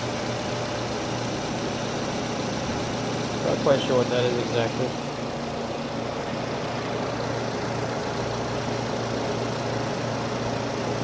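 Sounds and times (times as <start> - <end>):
car engine idling with whine: 0.0 - 11.0.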